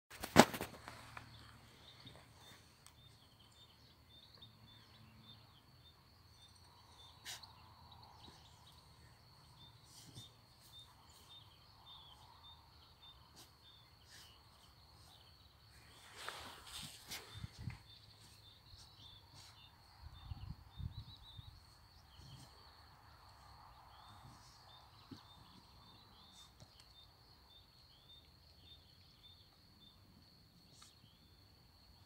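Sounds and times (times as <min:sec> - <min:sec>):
faint high insect chirps: 0:01.4 - 0:32.0.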